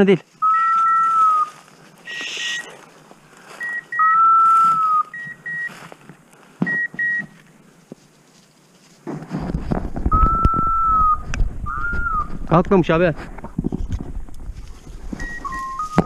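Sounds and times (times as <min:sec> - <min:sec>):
rustling through brush: 0:00.0 - 0:16.0.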